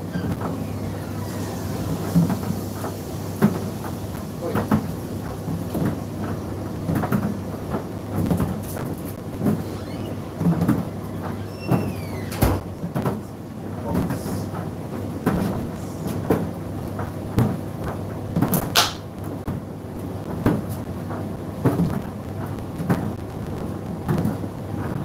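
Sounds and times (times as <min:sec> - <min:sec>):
tumble dryer motor hum: 0:00.0 - 0:25.0.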